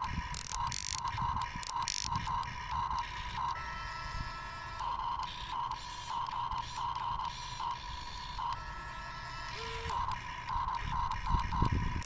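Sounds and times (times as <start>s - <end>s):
electric gear motors whining: 0.0s - 12.0s.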